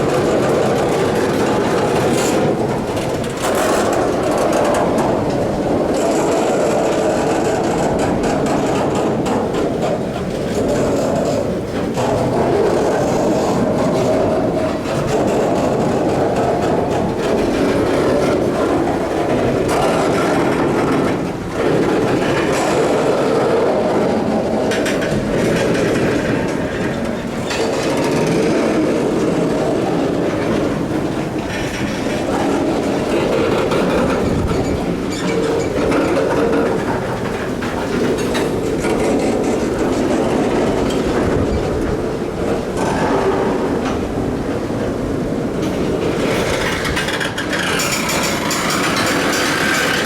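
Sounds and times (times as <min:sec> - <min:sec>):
freight train cars clattering: 0:00.0 - 0:50.0
train wheel clacks: 0:00.0 - 0:50.0.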